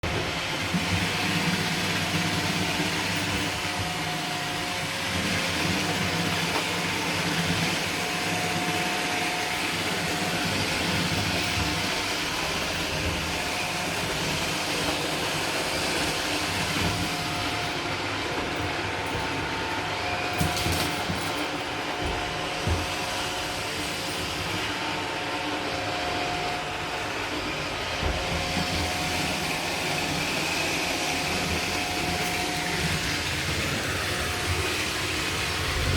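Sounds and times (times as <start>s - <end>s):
robot vacuum whirring: 0.1s - 35.9s.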